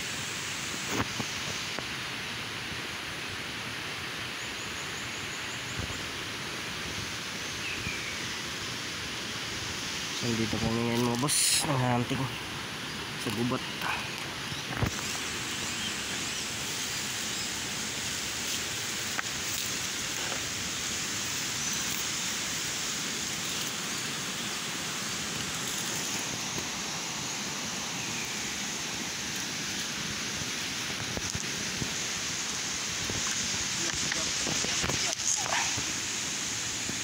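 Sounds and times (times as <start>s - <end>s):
forest rushing noise: 0.0s - 37.0s.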